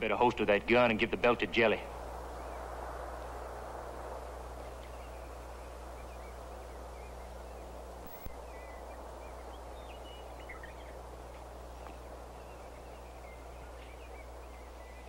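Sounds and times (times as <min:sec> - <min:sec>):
faint bird chirps: 0:00.0 - 0:15.0
low hum: 0:00.0 - 0:15.0
steady hiss: 0:00.0 - 0:15.0.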